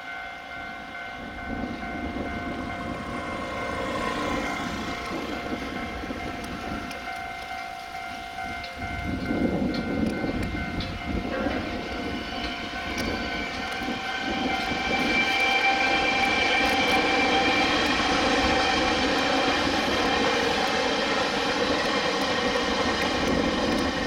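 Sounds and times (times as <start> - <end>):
train passing with rumble: 0.0 - 24.0
train whine: 0.0 - 24.0.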